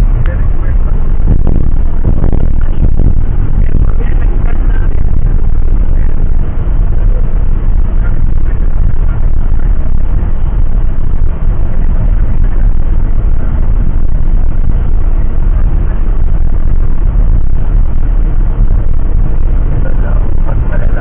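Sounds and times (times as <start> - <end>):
jet airliner cabin rumble: 0.0 - 21.0.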